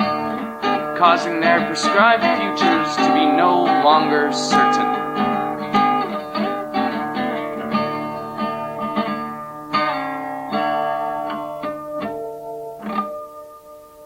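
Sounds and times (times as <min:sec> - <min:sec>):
guitar strummed chords: 0:00.0 - 0:14.0.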